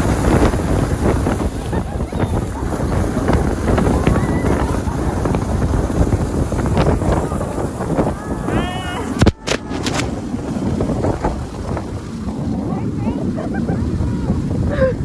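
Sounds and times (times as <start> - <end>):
snow tube sliding on snow: 0.0 - 15.0
wind buffeting microphone: 0.0 - 15.0.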